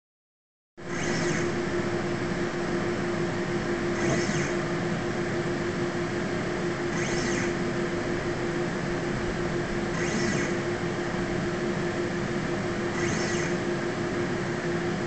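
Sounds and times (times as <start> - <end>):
scanner mechanical hum and tone: 0.8 - 15.0
scanner motors whining: 0.8 - 15.0.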